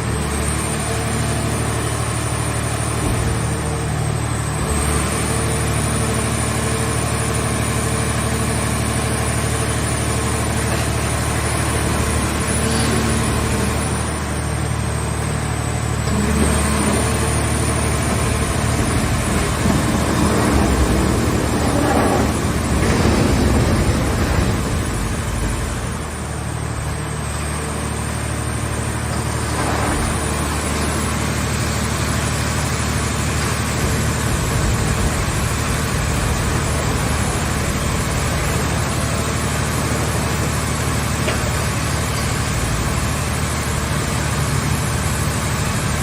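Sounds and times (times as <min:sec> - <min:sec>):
baler engine running: 0:01.4 - 0:46.0.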